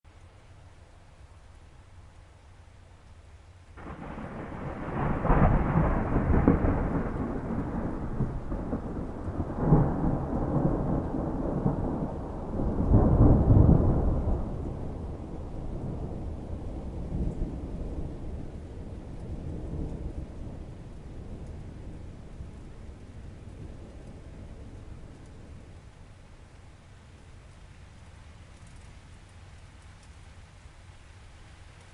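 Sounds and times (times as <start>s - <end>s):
steady rain: 0.0s - 31.9s
thunder rumbling: 3.8s - 31.0s.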